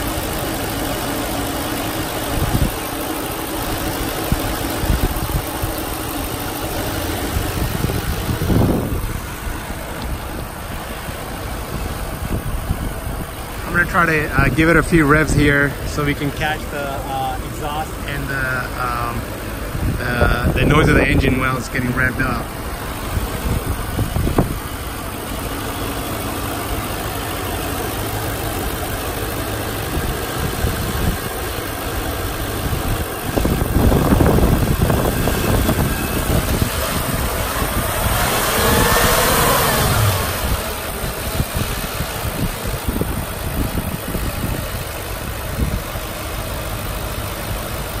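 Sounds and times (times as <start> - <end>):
car engine idling and revving: 0.0 - 48.0.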